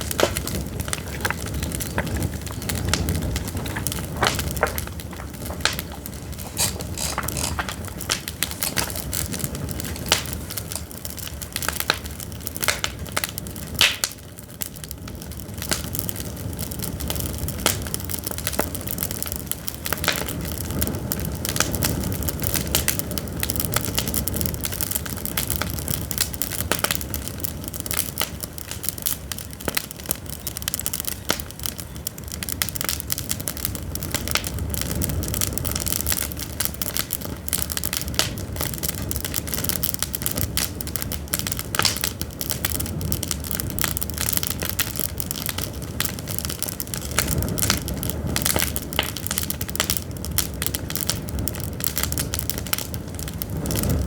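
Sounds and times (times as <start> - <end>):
firewood crackling and popping: 0.0 - 54.0
low rush of flame: 0.0 - 54.0.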